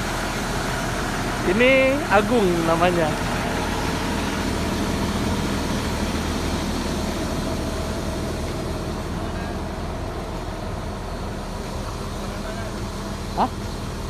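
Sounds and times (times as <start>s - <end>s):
excavator diesel engine humming: 0.0s - 14.0s.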